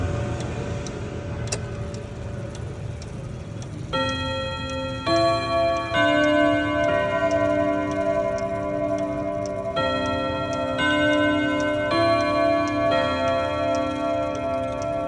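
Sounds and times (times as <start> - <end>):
clock ticking: 0.4 - 15.0
clock chime on rods: 2.5 - 15.0.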